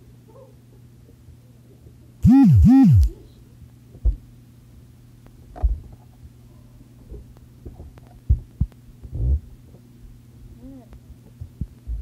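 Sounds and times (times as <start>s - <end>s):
steady low hum: 2.2s - 12.0s.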